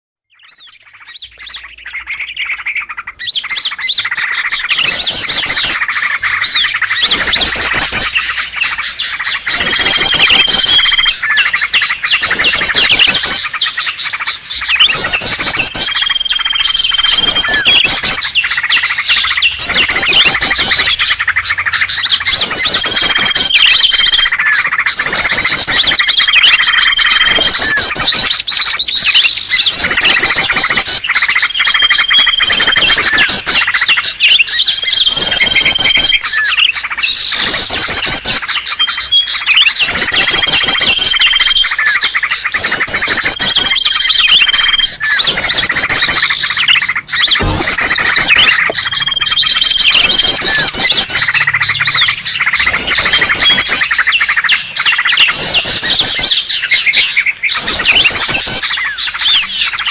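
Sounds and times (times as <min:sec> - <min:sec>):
birds chattering and trilling: 0:00.2 - 0:59.9
high bird whistle: 0:00.3 - 0:59.9.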